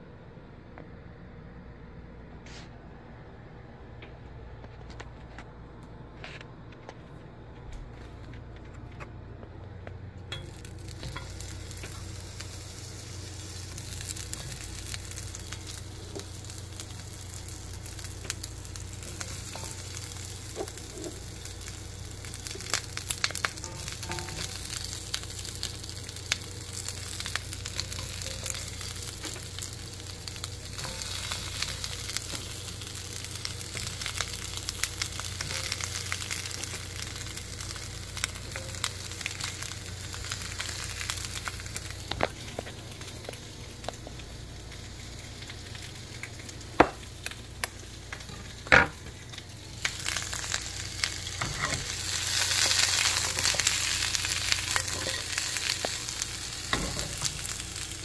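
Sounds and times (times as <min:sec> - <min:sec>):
onions sizzling in oil: 0:10.3 - 0:58.0.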